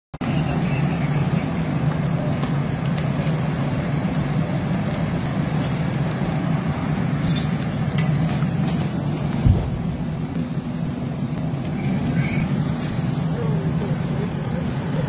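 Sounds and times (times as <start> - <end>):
diesel engine low drone: 0.2 - 15.0.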